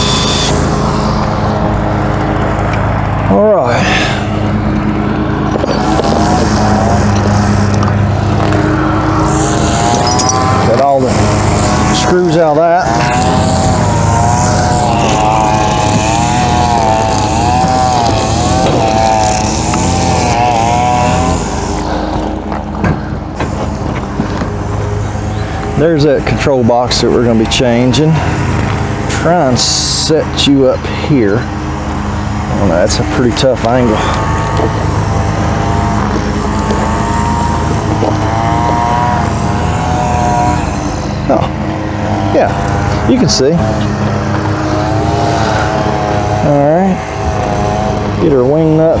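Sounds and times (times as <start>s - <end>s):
lawn mower drone: 0.0s - 49.0s
string trimmer engine running: 0.0s - 49.0s.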